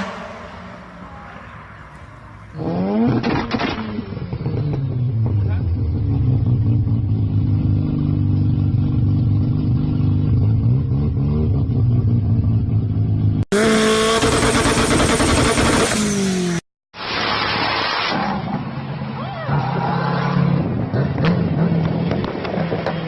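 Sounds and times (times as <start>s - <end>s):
high-revving engine: 2.5s - 23.0s.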